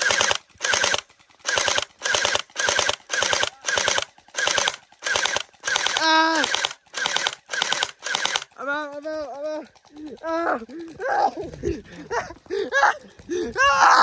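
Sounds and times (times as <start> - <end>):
gel blaster firing bursts: 0.0 - 11.8.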